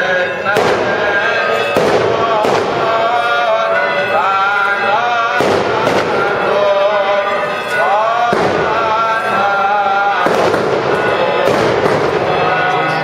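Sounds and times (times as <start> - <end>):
clergy chanting: 0.0 - 13.0
firecrackers banging: 0.0 - 13.0.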